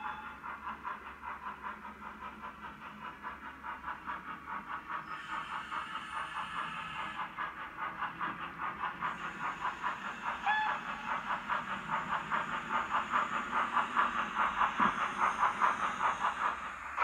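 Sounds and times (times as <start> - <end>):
model steam locomotive chuffs: 0.0 - 17.0
steam hiss: 0.0 - 17.0.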